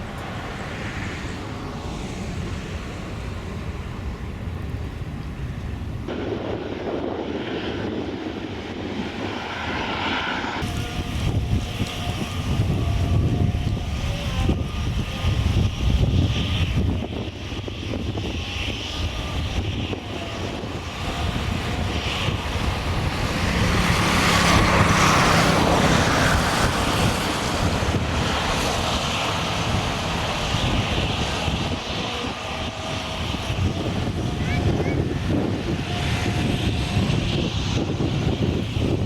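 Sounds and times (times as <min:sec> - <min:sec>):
airliner engines roaring: 0:00.0 - 0:39.0
wind rumble on microphone: 0:00.0 - 0:39.0.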